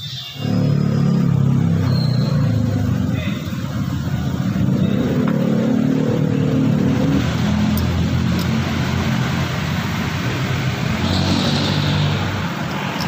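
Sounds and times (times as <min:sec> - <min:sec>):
vehicle engine running: 0:00.4 - 0:13.0.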